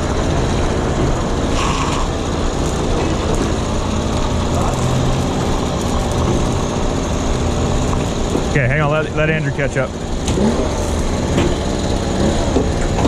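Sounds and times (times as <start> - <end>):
diesel engines running hard: 0.0 - 13.0.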